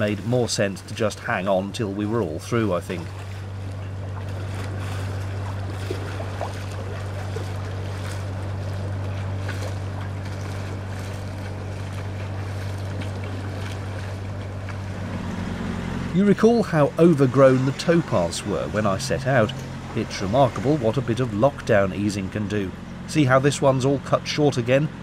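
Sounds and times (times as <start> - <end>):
boat engine droning: 0.0 - 25.0
wind and water rushing: 0.0 - 25.0.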